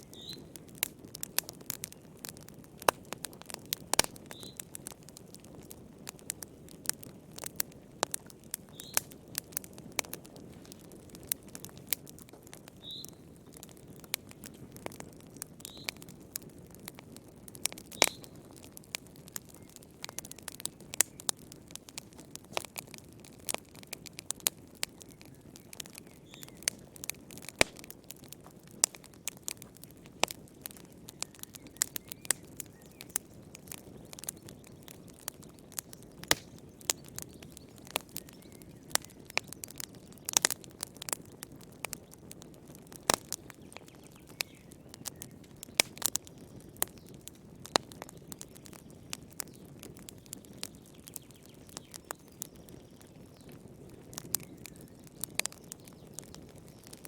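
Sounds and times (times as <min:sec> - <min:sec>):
high squeaks from burning wood: 0:00.0 - 0:57.0
wood fire crackling: 0:00.0 - 0:57.0.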